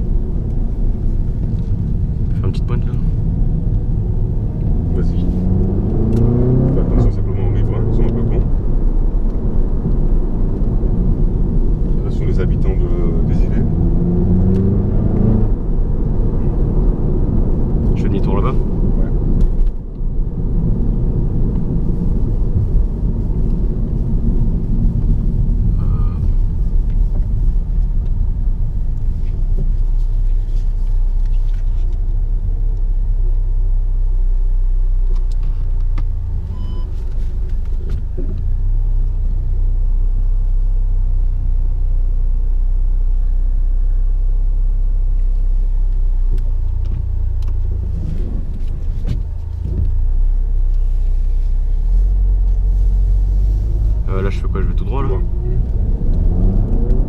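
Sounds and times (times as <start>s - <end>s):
car engine low rumble: 0.0s - 57.0s
road noise inside car: 0.0s - 57.0s.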